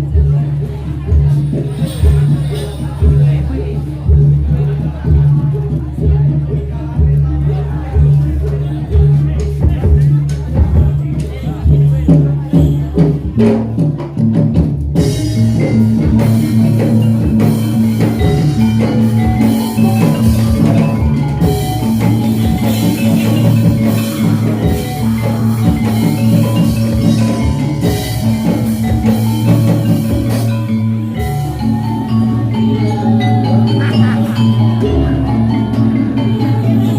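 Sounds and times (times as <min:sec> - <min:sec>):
drums: 0:00.0 - 0:36.9
gamelan metal keys: 0:00.0 - 0:36.9.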